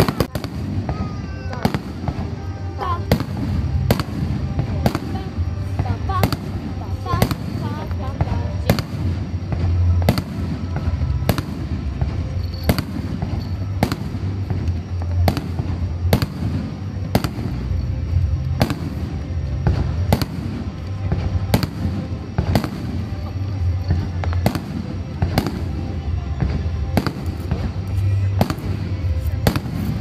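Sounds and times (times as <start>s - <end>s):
fireworks bursting: 0.0s - 30.0s.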